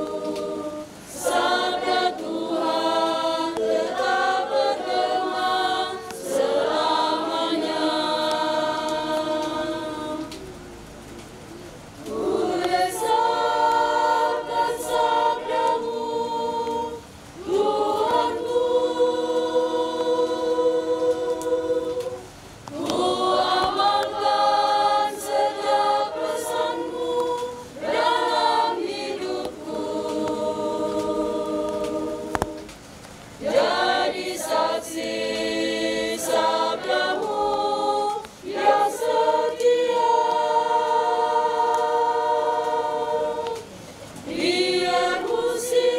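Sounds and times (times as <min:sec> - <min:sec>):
choir singing a hymn: 0:00.0 - 0:11.2, 0:12.0 - 0:45.9.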